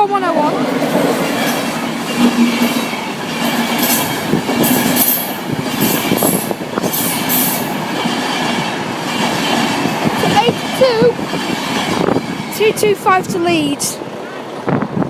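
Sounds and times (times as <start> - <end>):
train passing on rails: 0.0 - 15.0.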